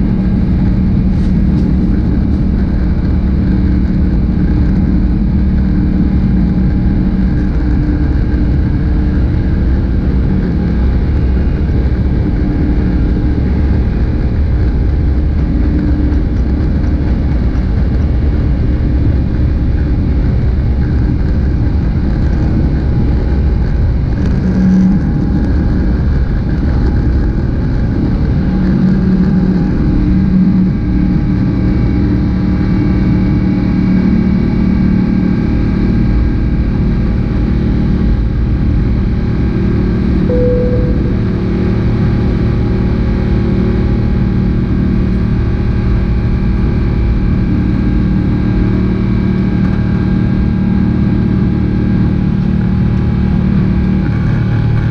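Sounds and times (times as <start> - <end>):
jet engines drone in cabin: 0.0 - 54.9.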